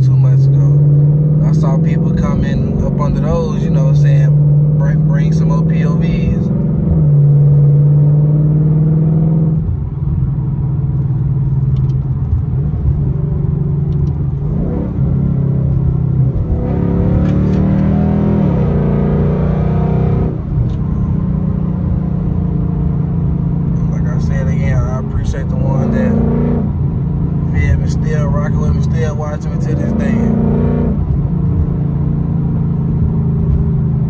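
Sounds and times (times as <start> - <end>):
car engine with loud exhaust: 0.0 - 34.0.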